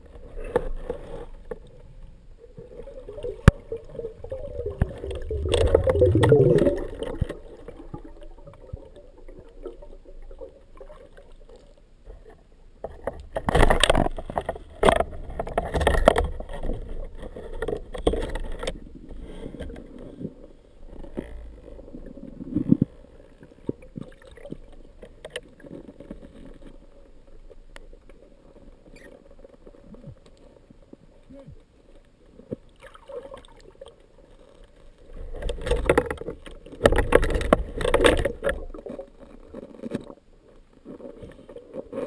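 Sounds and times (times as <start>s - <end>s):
underwater rushes and knocks: 0.0s - 31.7s, 32.3s - 42.0s
muffled underwater water movement: 0.0s - 42.0s.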